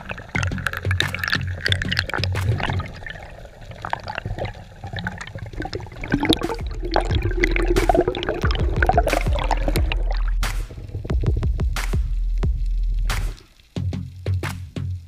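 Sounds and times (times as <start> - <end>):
water sloshing and bubbling: 0.0 - 13.8.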